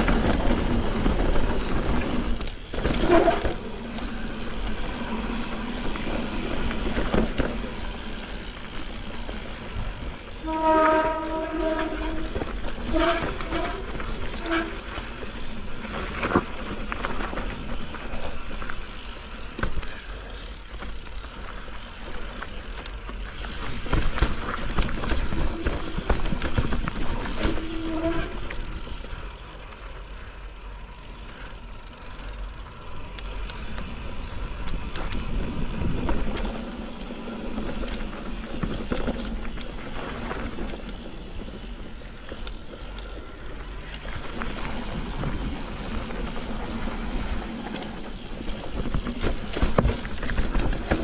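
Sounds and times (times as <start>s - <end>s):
bike rattles and knocks: 0.0s - 29.3s, 31.3s - 51.0s
bike tyres over dirt and stones: 0.0s - 51.0s.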